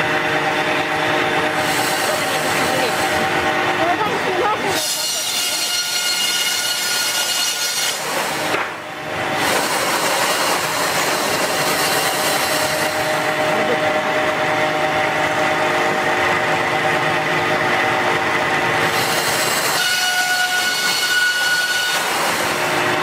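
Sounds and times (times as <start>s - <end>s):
power saw cutting wood: 0.0s - 23.0s.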